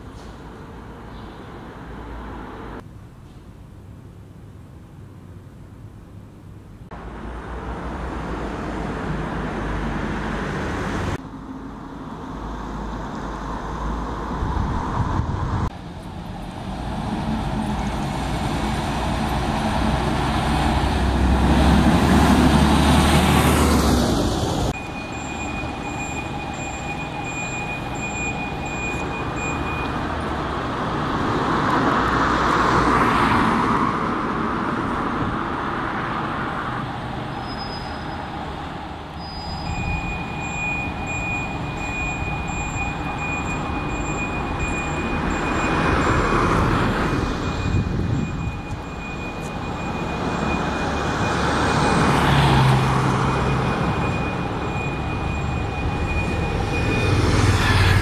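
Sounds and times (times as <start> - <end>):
diesel bus engines running: 0.0 - 32.9, 33.6 - 58.0
bus driving past: 6.9 - 58.0.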